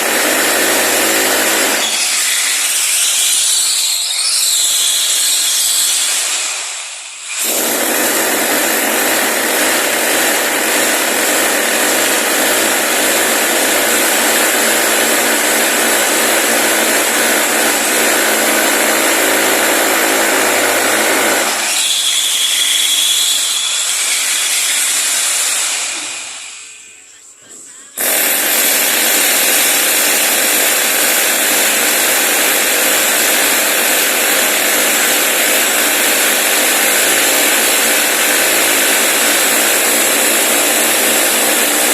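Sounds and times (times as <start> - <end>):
power tool running: 0.0 - 26.7, 28.0 - 41.9.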